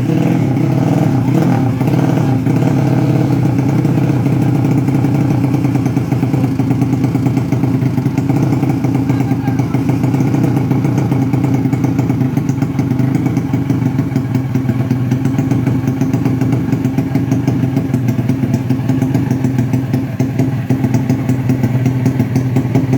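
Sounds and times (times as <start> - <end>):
motorcycle idling: 0.0 - 22.9.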